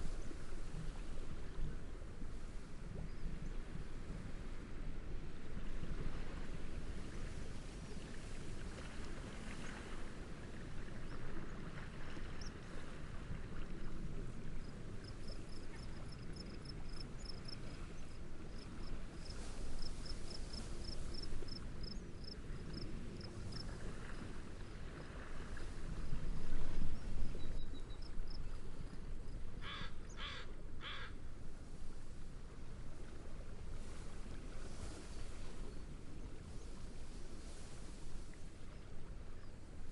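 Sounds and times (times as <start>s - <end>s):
gentle waves: 0.0s - 39.9s
steady wind: 0.0s - 39.9s.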